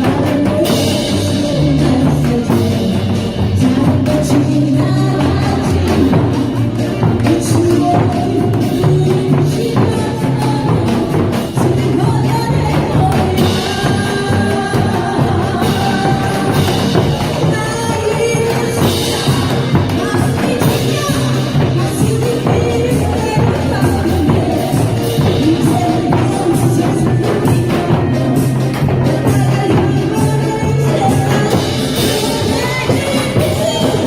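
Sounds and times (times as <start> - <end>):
person singing: 0.0 - 34.0
song with steady beat: 0.0 - 34.0.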